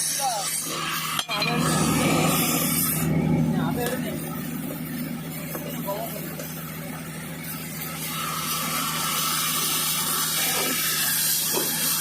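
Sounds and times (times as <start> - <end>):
welding arc frying hiss: 0.0 - 12.0
steady low hum: 0.4 - 12.0.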